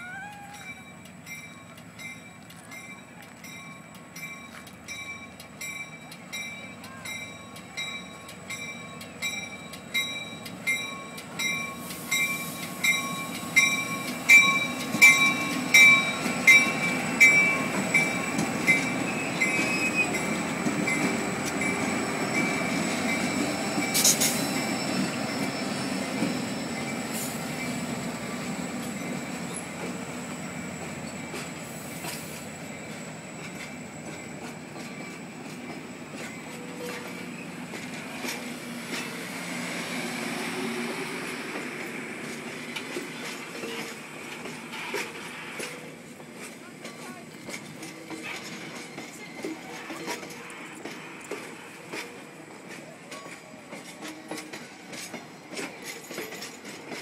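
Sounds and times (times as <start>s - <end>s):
locomotive bell ringing: 0.0s - 39.3s, 42.2s - 57.0s
train wheels rolling: 0.0s - 57.0s.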